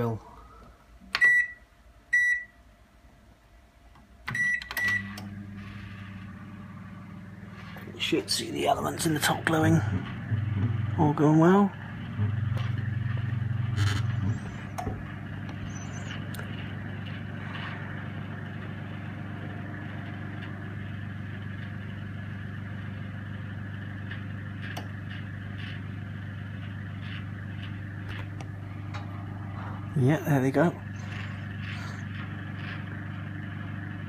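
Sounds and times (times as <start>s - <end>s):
microwave oven hum with fan: 0.0s - 34.0s
loud hum: 4.3s - 34.0s.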